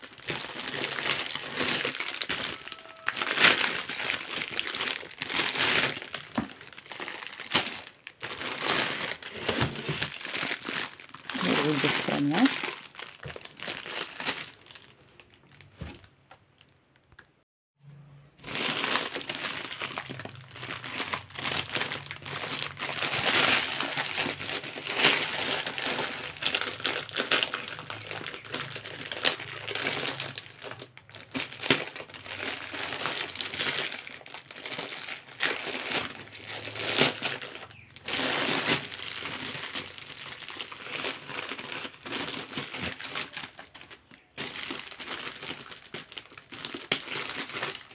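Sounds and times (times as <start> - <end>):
cellophane crinkling: 0.0 - 17.3, 18.4 - 47.9.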